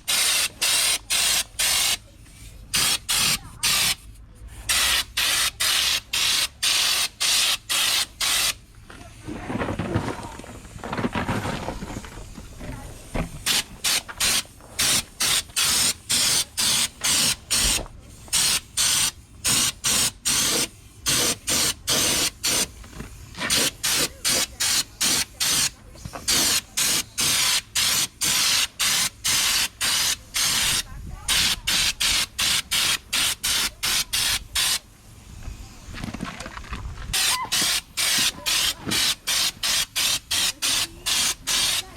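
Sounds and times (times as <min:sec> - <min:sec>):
spray gun hissing bursts: 0:00.0 - 0:08.6, 0:13.4 - 0:35.9, 0:37.1 - 0:41.9.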